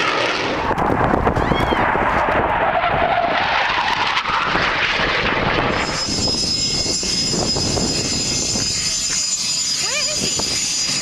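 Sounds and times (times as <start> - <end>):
jet engine high whine: 0.0 - 11.0
jet passing overhead: 0.0 - 11.0.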